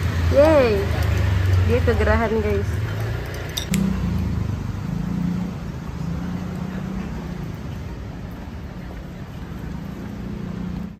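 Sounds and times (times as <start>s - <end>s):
street noise: 0.0s - 10.9s.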